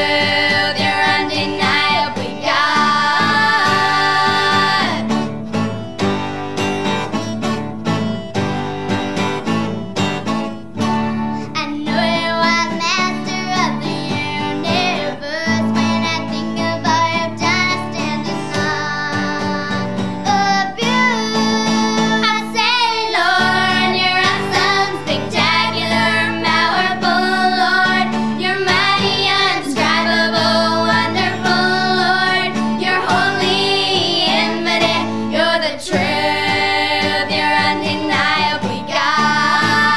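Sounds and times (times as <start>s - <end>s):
girls singing: 0.0s - 5.3s, 11.6s - 39.9s
strummed acoustic guitar: 0.0s - 39.9s.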